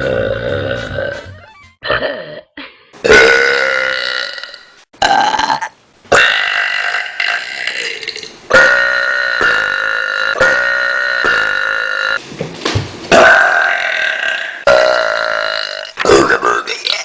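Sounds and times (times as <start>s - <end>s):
person belching loudly: 0.0s - 12.2s, 13.1s - 17.0s.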